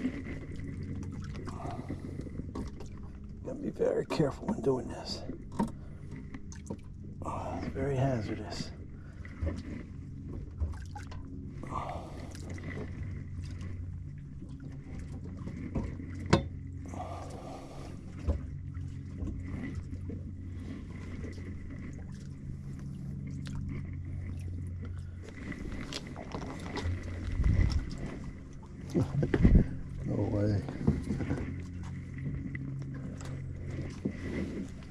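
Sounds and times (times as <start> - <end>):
boat motor humming: 0.0 - 34.9.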